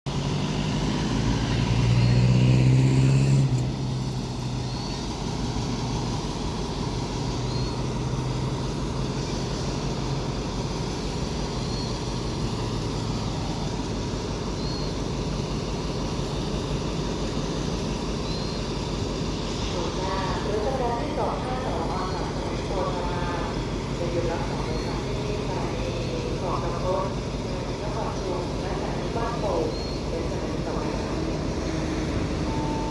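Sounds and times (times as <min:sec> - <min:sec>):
locomotive engine drone: 0:00.1 - 0:32.9
train carriages rumbling: 0:00.1 - 0:32.9.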